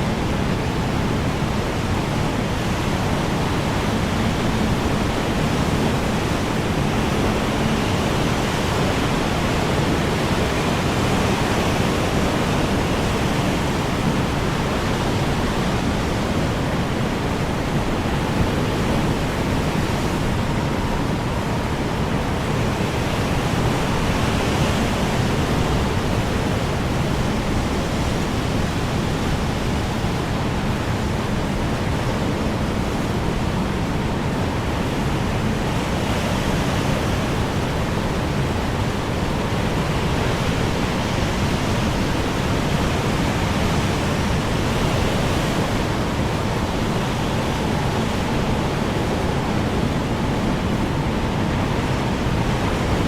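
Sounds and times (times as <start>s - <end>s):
strong wind blowing: 0.0s - 53.0s.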